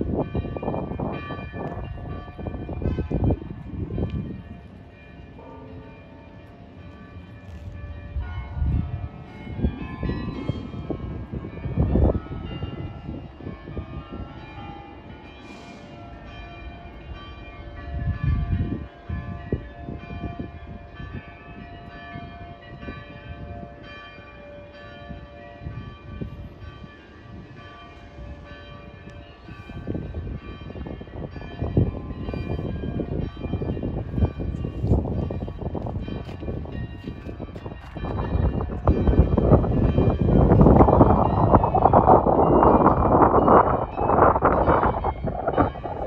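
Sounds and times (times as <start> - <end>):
church bells ringing: 0.0 - 46.0
wind buffeting microphone: 0.0 - 46.0.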